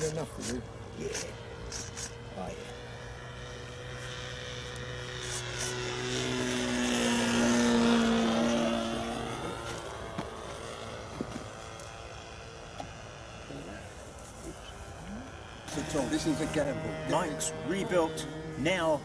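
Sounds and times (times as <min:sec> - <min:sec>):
model aeroplane motor and propeller: 0:00.0 - 0:19.0.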